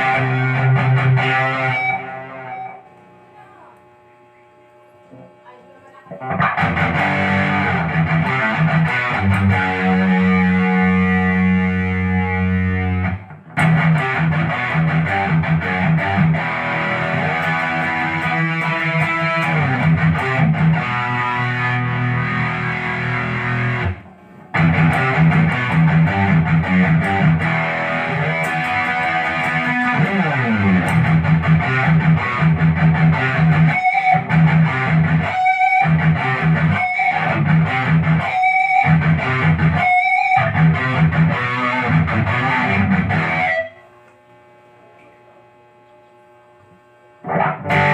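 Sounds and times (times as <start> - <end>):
distorted electric guitar riffs: 0.0 - 47.9.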